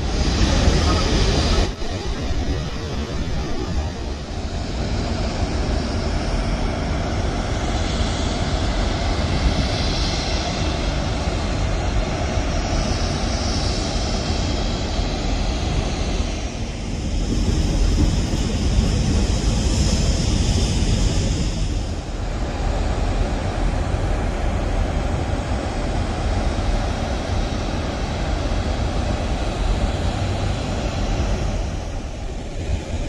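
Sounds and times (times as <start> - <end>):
refinery jet-like roar: 0.0 - 33.0.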